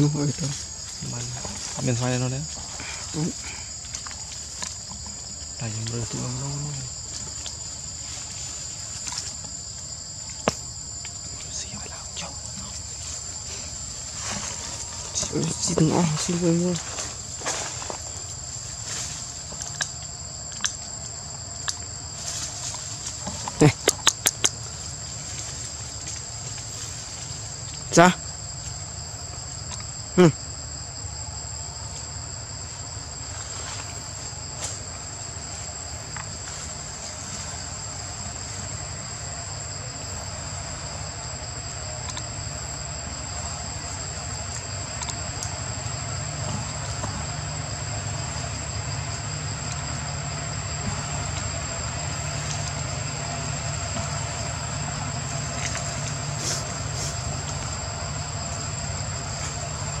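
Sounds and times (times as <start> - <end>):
forest insects droning: 0.0 - 60.0.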